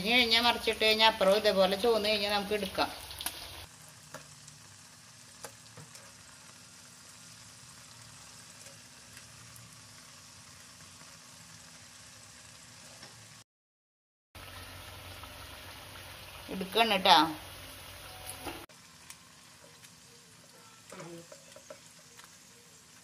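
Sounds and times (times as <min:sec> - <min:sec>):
oil sizzling: 0:00.0 - 0:13.4, 0:14.4 - 0:23.0.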